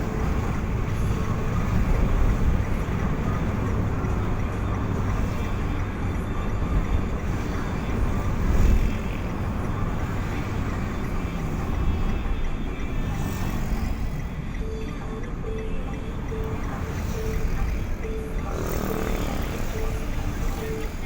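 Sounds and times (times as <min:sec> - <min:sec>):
road noise: 0:00.0 - 0:21.0
vehicle engine: 0:00.0 - 0:21.0.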